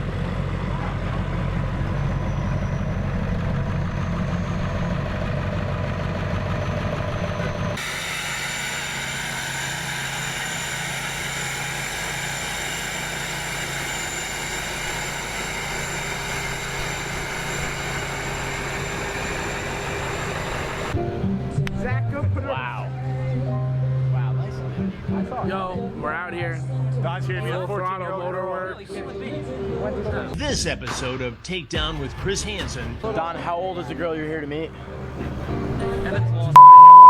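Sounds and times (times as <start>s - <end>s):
diesel truck engines idling: 0.0s - 30.4s.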